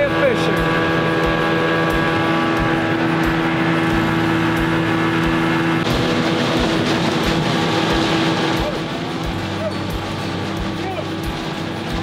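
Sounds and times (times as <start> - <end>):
outboard motor running: 0.0 - 12.0
rush of wind and water: 0.0 - 12.0.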